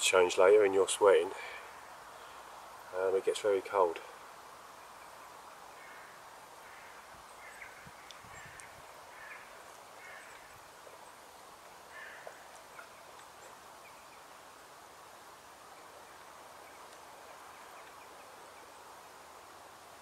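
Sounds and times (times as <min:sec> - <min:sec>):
low hiss: 0:00.0 - 0:20.0
distant bird calls: 0:01.3 - 0:20.0.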